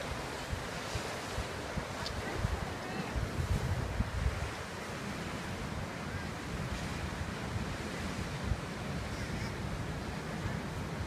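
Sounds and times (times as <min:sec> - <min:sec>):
waves breaking on rocky shore: 0:00.0 - 0:11.0
wind buffeting microphone: 0:00.0 - 0:11.0.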